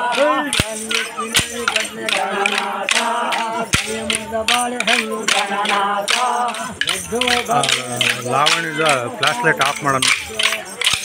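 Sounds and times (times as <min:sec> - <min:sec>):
group singing folk song: 0:00.0 - 0:11.0
sticks clacking together: 0:00.1 - 0:11.0.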